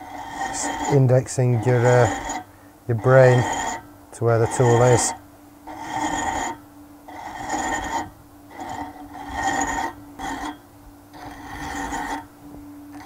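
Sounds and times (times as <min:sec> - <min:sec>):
hand file rasping on metal: 0:00.0 - 0:10.6, 0:11.2 - 0:12.3
lathe humming: 0:00.0 - 0:10.6, 0:11.2 - 0:12.3.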